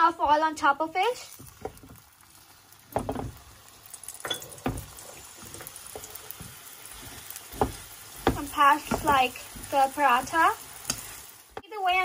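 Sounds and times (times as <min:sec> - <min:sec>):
oil sizzling in pan: 0:00.0 - 0:12.0.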